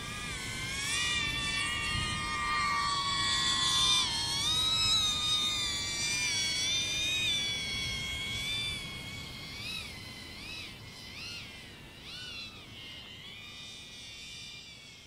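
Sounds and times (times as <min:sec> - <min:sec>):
drone propellers whining: 0:00.0 - 0:12.5.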